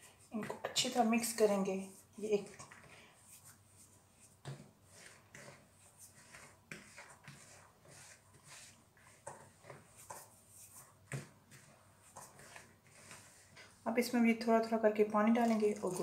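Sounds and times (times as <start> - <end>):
hand rubbing flour in bowl: 0.0 - 14.4, 15.2 - 16.0.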